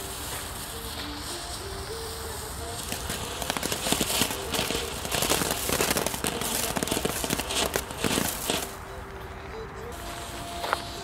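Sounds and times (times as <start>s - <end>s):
ground firework crackling pops: 0.0s - 11.0s.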